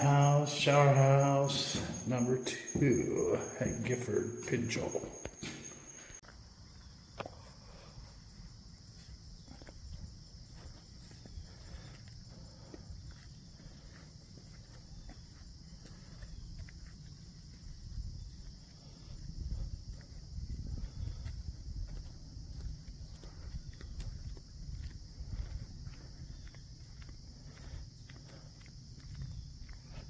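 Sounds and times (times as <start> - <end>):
faint footsteps: 0.0 - 30.0
insect chorus humming: 0.0 - 30.0.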